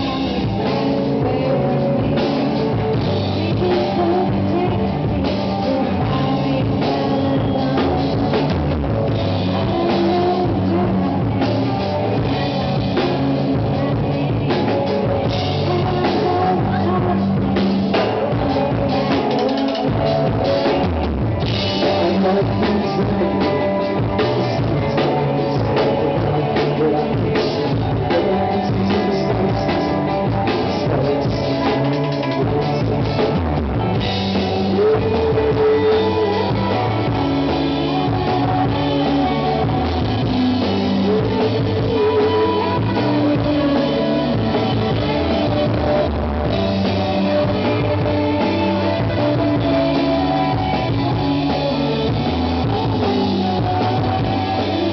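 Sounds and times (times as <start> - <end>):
drum kit: 0.0 - 54.9
electric guitar: 0.0 - 54.9
rock band playing: 0.0 - 54.9.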